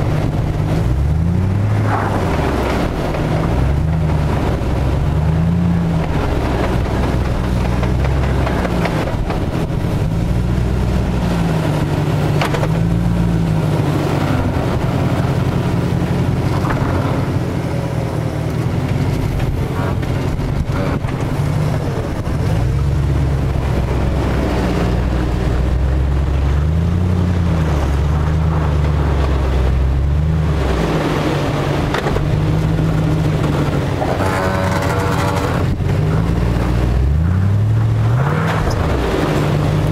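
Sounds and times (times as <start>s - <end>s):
car engine revving under load: 0.0s - 39.9s.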